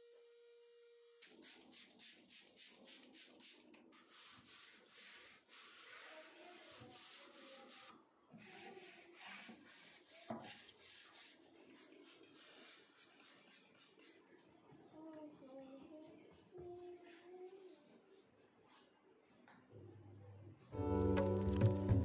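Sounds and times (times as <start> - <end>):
faint rubbing sounds: 1.4 - 19.4.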